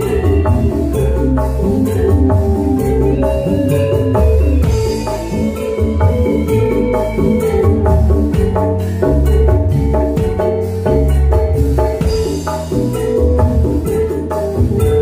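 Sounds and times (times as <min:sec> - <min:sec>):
hand drum strokes: 0:00.0 - 0:15.0
low bass line: 0:00.0 - 0:15.0.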